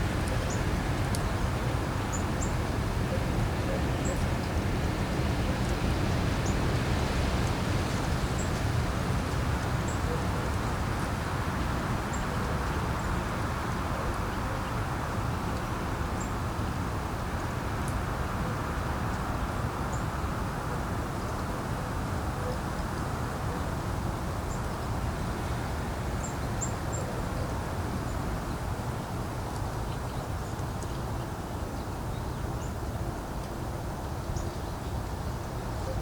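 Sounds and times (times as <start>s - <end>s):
wind blowing with low rumble: 0.0s - 36.0s.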